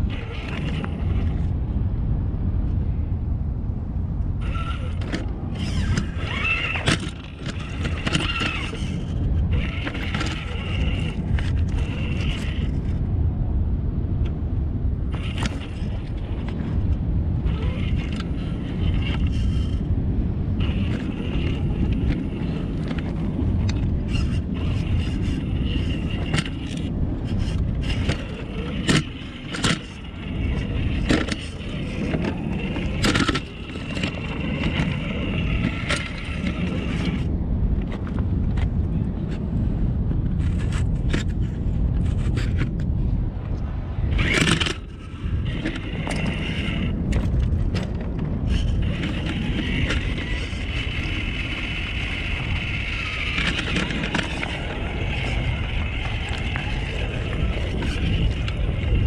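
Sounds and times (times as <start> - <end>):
toy car motor whining: 0.0 - 1.5, 4.4 - 13.0, 15.1 - 19.9, 20.6 - 37.3, 40.4 - 42.8, 44.1 - 59.0
wheels scraping on stone: 0.0 - 1.6, 4.4 - 13.1, 15.0 - 59.0
low rumble: 0.0 - 59.0.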